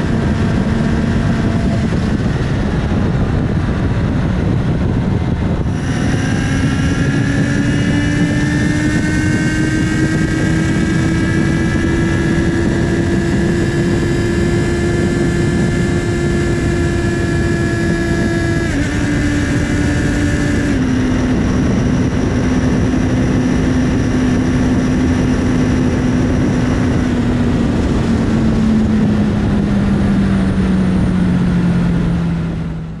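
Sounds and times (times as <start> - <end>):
motorcycle engine: 0.0 - 33.0
rushing wind: 0.0 - 33.0.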